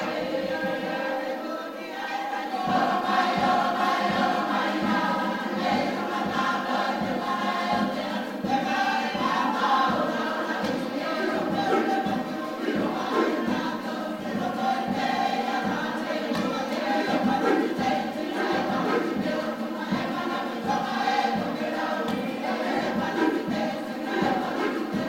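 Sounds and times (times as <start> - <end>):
choir singing in harmony: 0.0 - 25.0.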